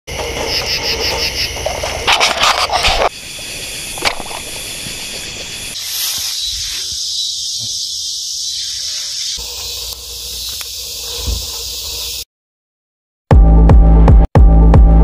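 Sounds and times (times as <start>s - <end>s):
insects chirring: 0.1s - 12.2s.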